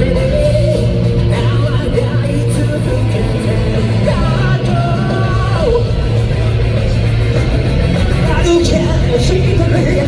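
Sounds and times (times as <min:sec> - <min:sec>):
electric guitars: 0:00.0 - 0:10.0
rock band playing: 0:00.0 - 0:10.0.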